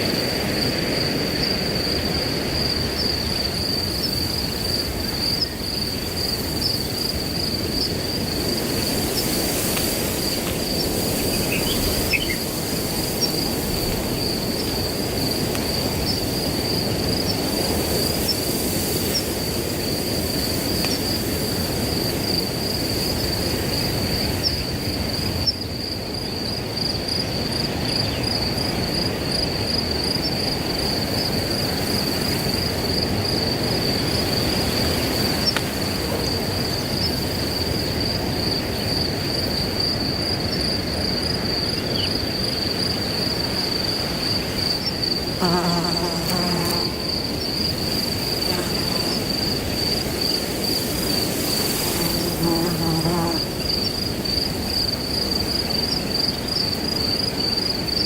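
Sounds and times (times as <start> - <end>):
crickets trilling: 0.0 - 58.0
wind rustling through grass: 0.0 - 58.0.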